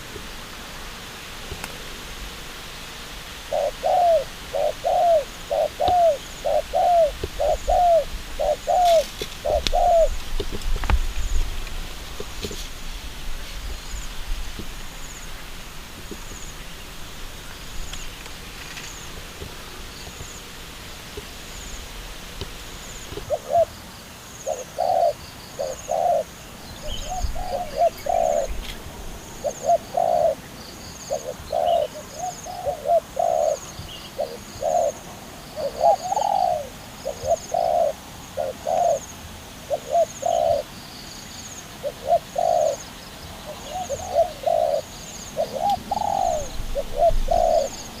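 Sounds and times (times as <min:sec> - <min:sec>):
doves cooing: 0:03.3 - 0:23.8, 0:24.4 - 0:30.5, 0:31.1 - 0:40.8, 0:41.7 - 0:48.0.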